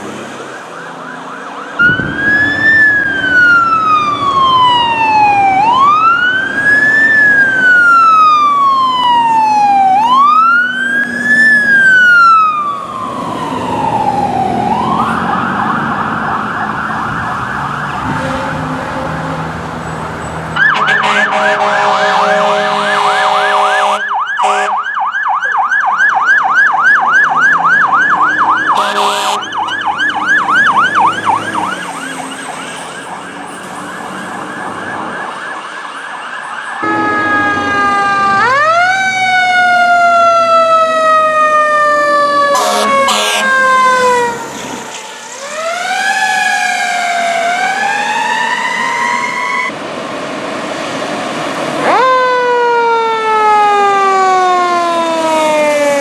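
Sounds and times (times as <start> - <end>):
fire engine siren wail: 0.0 - 56.0
fast yelping siren: 0.3 - 18.5, 20.6 - 49.7, 51.8 - 56.0.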